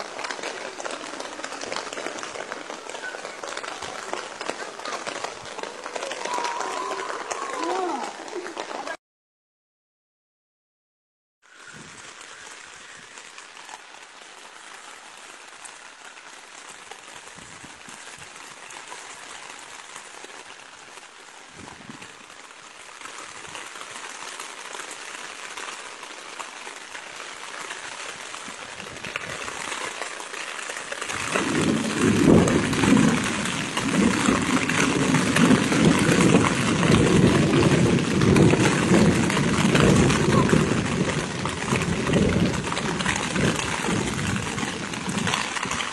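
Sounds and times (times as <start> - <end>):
rain falling: 0.0 - 9.0, 11.4 - 45.9.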